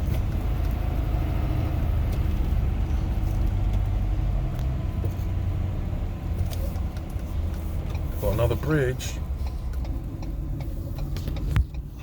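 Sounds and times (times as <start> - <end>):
truck engine and tyre rumble: 0.0 - 12.0.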